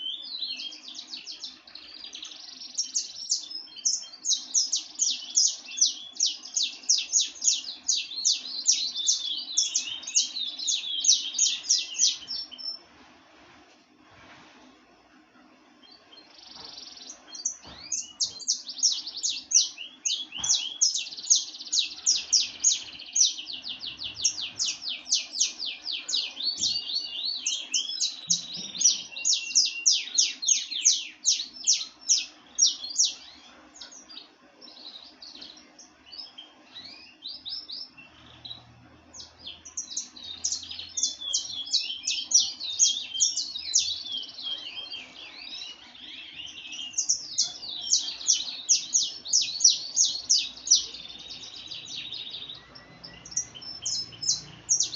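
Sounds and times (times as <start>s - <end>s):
songbird singing: 0.0s - 13.0s, 14.8s - 54.9s.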